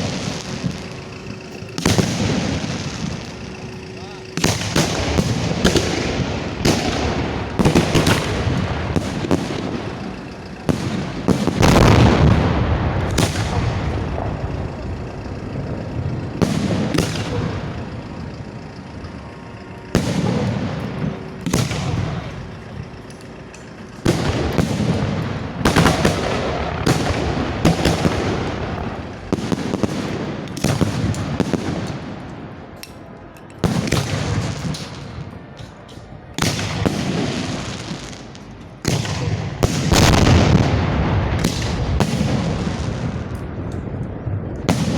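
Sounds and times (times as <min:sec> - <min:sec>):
fireworks launches and booms: 0:00.0 - 0:23.0, 0:24.0 - 0:32.6, 0:33.6 - 0:35.4, 0:36.4 - 0:44.9.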